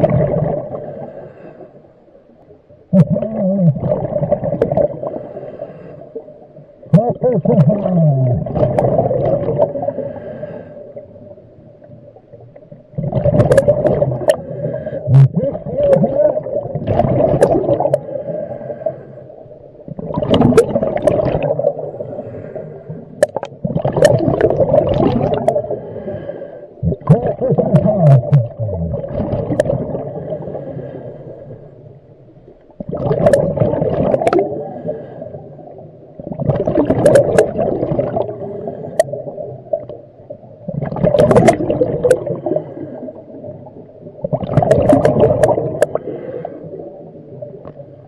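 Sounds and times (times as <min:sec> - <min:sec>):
underwater bubbles gurgling: 0:00.0 - 0:48.0.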